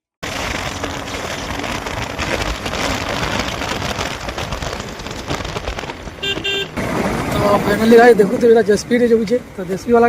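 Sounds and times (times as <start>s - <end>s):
wind rushing over microphone: 0.2s - 8.5s.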